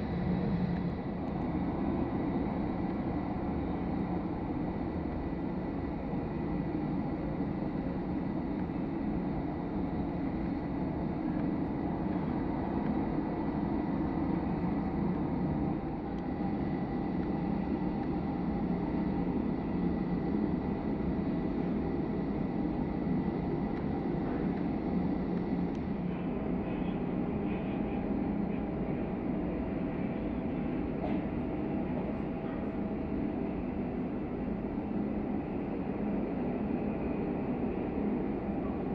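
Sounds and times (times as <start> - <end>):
jet engines idling with high whine: 0.0 - 38.9.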